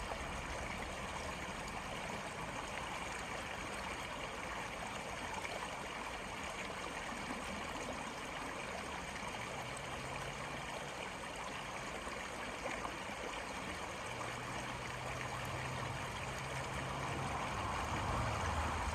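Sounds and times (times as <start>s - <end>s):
stream rushing and gurgling: 0.0s - 18.9s.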